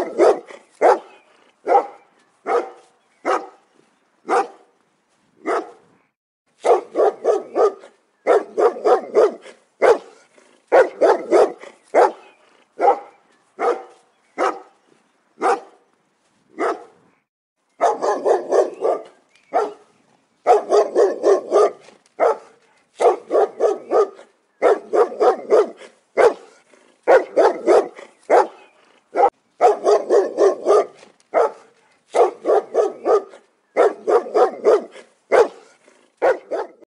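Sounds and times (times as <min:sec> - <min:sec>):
large dog barking angrily: 0:00.0 - 0:03.6, 0:04.3 - 0:04.7, 0:05.4 - 0:05.8, 0:06.6 - 0:14.8, 0:15.4 - 0:15.8, 0:16.6 - 0:17.0, 0:17.8 - 0:36.9.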